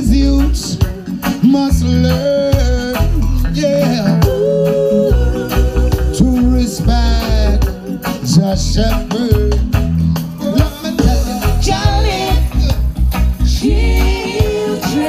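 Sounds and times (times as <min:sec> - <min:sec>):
lead and backing singers: 0:00.0 - 0:09.6, 0:10.2 - 0:15.0
heavy bass line: 0:00.0 - 0:15.0
live reggae band: 0:00.0 - 0:15.0.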